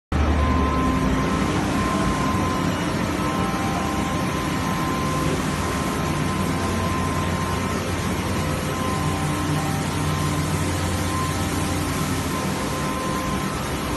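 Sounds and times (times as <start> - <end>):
machine humming and rushing: 0.1 - 13.9
faint constant high tone: 0.2 - 13.9.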